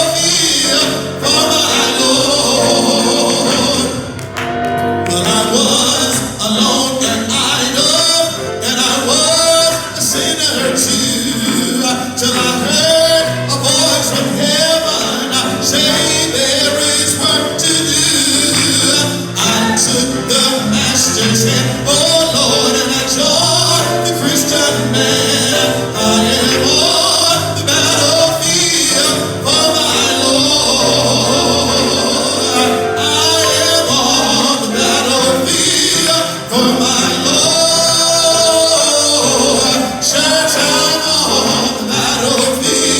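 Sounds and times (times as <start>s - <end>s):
gospel singing with band: 0.0s - 42.9s.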